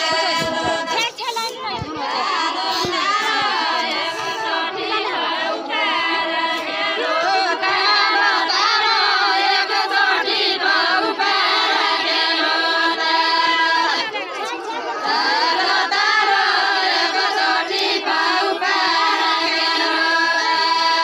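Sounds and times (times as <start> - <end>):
women singing unaccompanied: 0.0 - 21.0.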